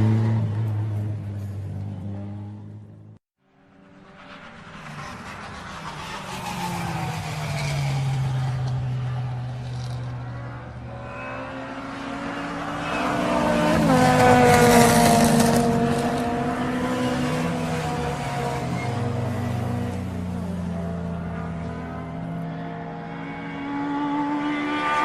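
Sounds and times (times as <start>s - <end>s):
sports car engine at speed: 0.0s - 25.0s.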